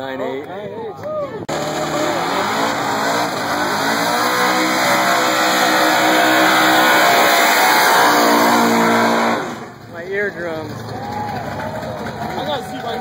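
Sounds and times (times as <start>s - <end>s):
car engines revving hard: 1.5s - 13.0s.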